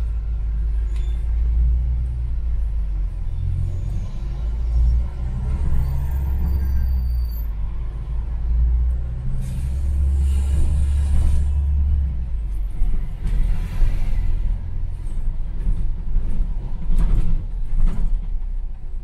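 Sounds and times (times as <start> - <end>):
bus engine rumbling: 0.0 - 19.0.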